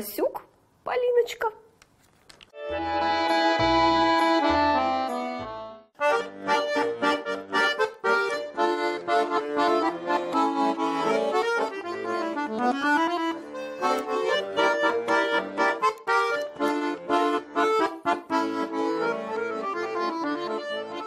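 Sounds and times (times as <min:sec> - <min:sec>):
quick instrumental melody over beat: 0:02.6 - 0:21.0.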